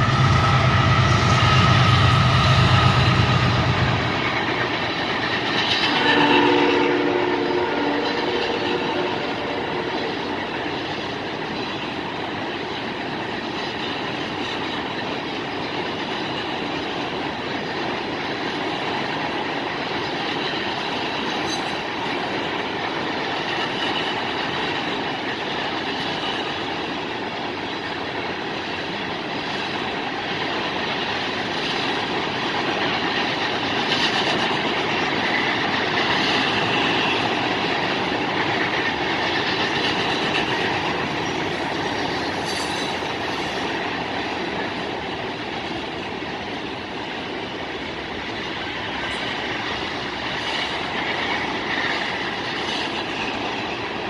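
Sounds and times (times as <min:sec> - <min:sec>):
freight train wheels rumbling on rail: 0:00.0 - 0:54.0.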